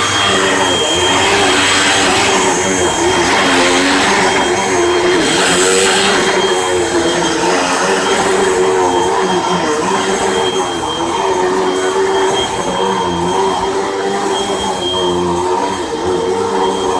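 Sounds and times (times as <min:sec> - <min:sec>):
vacuum cleaner running: 0:00.0 - 0:16.9.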